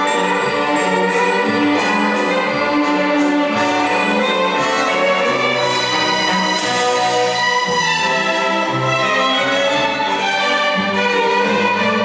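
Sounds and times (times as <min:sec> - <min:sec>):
orchestral waltz music: 0:00.0 - 0:12.0.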